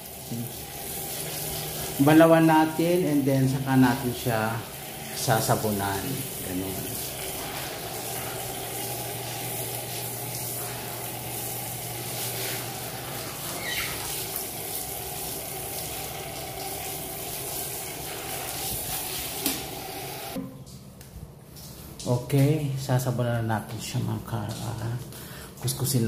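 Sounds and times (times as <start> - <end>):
shower spraying water: 0.0 - 20.4, 23.7 - 26.0.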